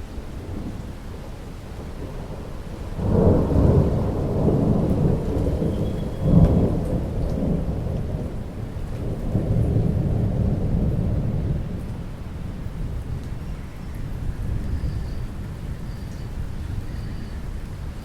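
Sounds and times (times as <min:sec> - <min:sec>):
steady rainfall: 0:00.0 - 0:18.0
thunder rumbling: 0:00.0 - 0:18.0.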